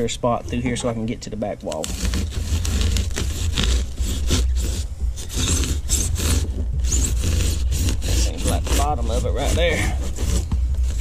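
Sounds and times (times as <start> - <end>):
steady low rumble: 0.0 - 11.0
foam being scraped and torn: 1.6 - 11.0.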